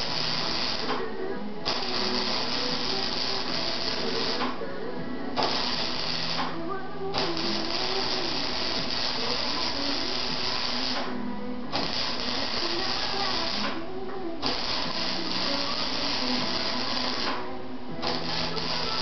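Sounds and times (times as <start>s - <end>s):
welder arc crackling and hissing: 0.0s - 19.0s.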